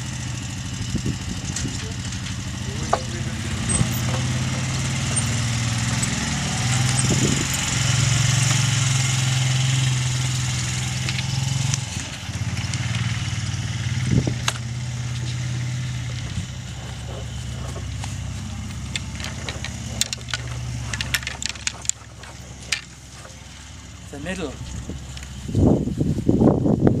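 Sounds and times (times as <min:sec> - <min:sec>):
small engine droning: 0:00.0 - 0:27.0.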